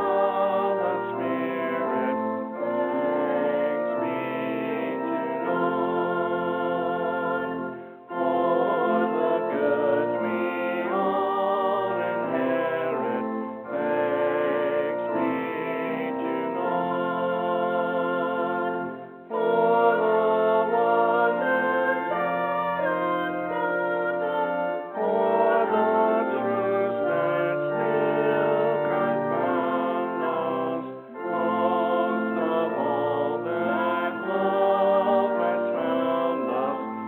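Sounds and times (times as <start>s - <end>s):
hymn singing: 0.0s - 37.0s
instrumental accompaniment: 0.0s - 37.0s.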